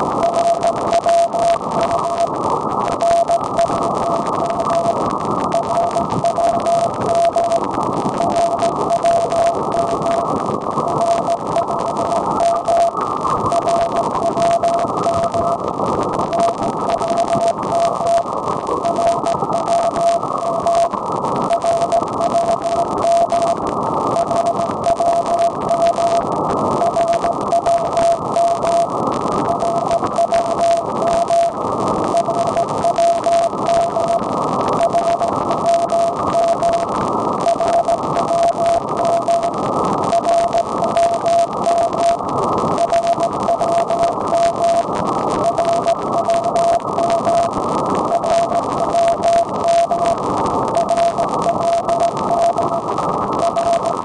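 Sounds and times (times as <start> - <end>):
radio beat tone: 0.0 - 54.0
radio hiss and static: 0.0 - 54.0.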